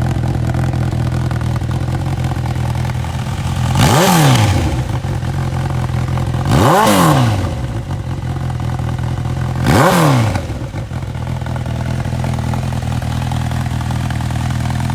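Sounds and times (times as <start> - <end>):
motorcycle engine idling and revving: 0.0 - 14.9.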